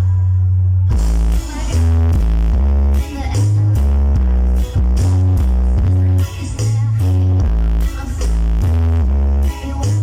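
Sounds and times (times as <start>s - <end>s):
loud bass-heavy music: 0.0s - 10.0s.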